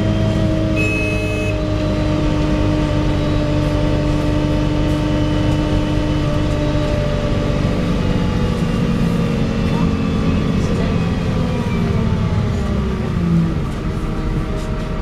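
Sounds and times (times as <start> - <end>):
bus diesel engine running: 0.0 - 15.0
engine whine: 0.0 - 15.0.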